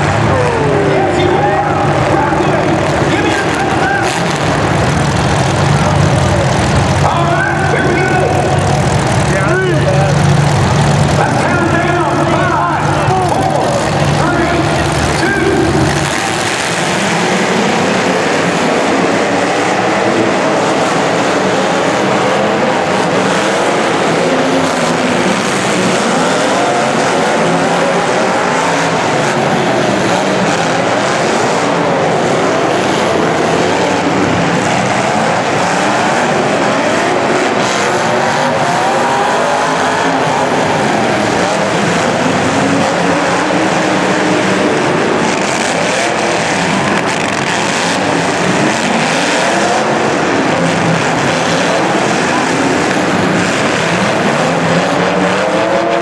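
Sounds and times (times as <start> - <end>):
steady mechanical noise: 0.0 - 55.7
racing engines revving: 0.0 - 56.0.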